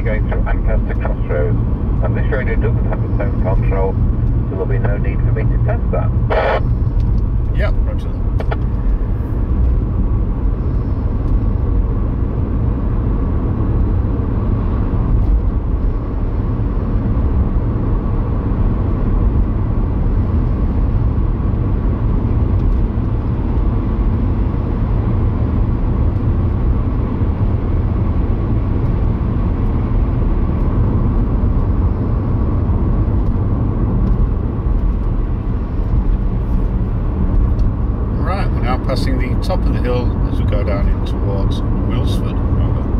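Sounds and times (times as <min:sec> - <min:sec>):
car road and engine rumble: 0:00.0 - 0:42.9.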